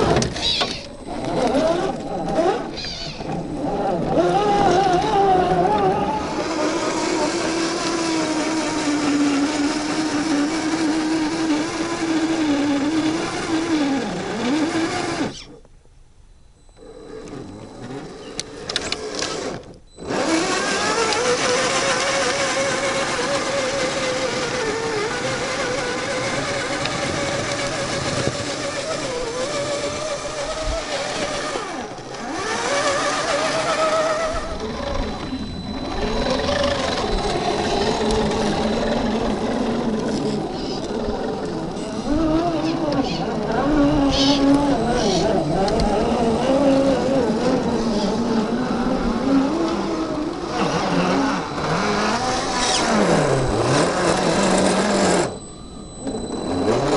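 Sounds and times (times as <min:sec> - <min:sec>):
electric motor whining: 0:00.0 - 0:15.7, 0:16.6 - 0:56.9.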